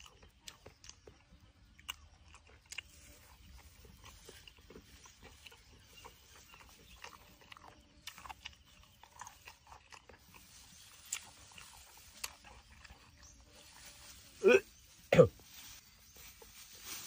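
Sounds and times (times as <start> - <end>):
person chewing food: 0.0 - 13.7.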